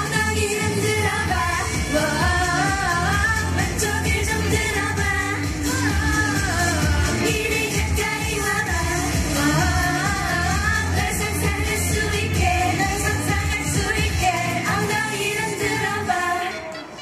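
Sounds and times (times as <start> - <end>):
dance beat and bass: 0.0 - 16.3
women singing pop song: 0.0 - 17.0.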